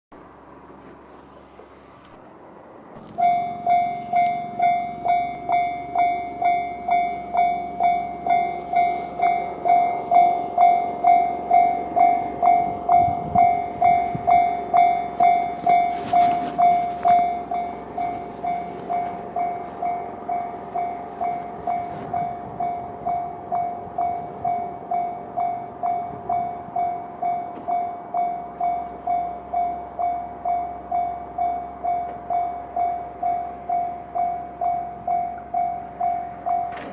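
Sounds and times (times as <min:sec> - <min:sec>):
electric train rumbling: 0:00.1 - 0:36.9
level crossing electronic bell: 0:03.2 - 0:36.9.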